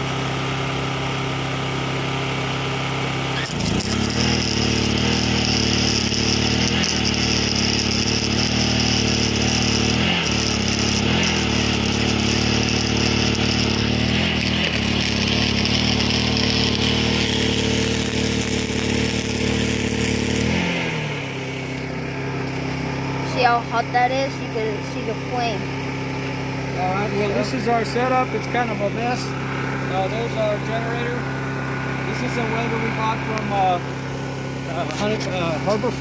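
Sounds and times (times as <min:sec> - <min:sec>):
generator engine running: 0:00.0 - 0:36.0
welding arc sizzling: 0:00.0 - 0:36.0.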